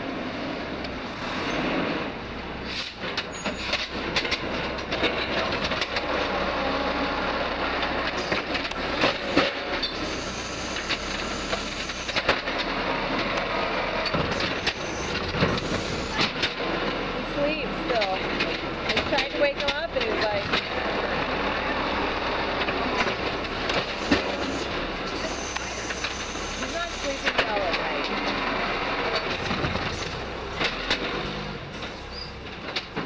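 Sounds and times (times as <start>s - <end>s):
garbage truck engine running: 0.0s - 33.0s
clanks and bangs of cart: 2.7s - 6.4s, 7.8s - 10.1s, 10.8s - 21.3s, 22.5s - 33.0s.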